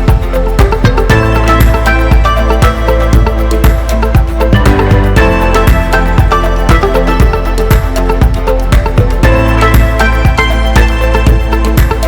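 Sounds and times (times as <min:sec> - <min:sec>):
drum hits: 0:00.1 - 0:11.4.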